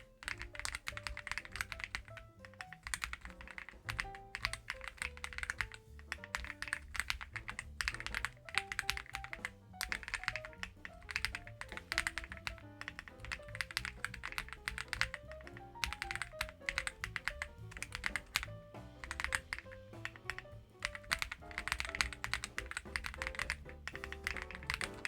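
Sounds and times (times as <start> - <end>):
background music: 0.0 - 25.0
mechanical keyboard typing: 0.0 - 25.0.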